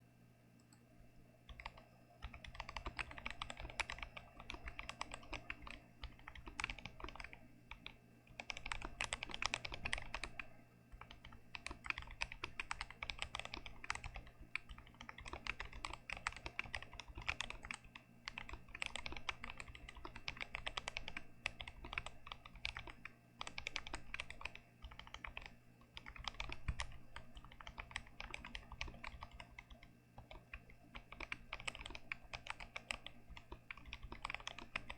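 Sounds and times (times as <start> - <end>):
fast mechanical keyboard typing: 1.5 - 34.9.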